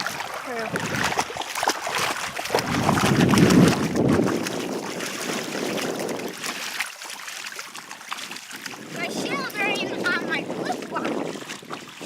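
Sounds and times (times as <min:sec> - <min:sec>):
wind buffeting microphone: 0:00.0 - 0:06.8, 0:08.2 - 0:12.0
water washing at shoreline: 0:00.0 - 0:12.0.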